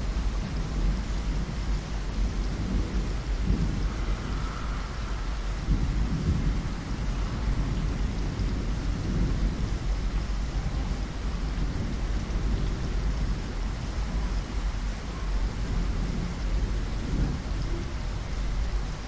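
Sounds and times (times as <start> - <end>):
low rumbling churn: 0.0 - 19.0
rain falling: 0.0 - 19.0.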